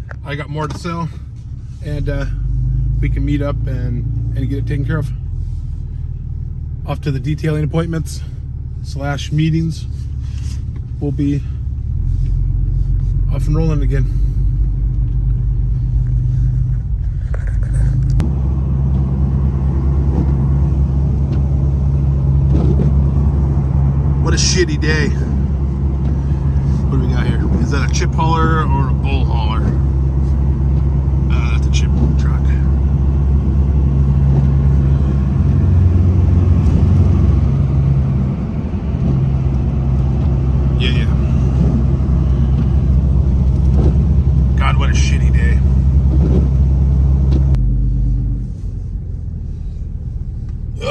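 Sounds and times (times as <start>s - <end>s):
truck engine and road drone: 0.0s - 50.9s.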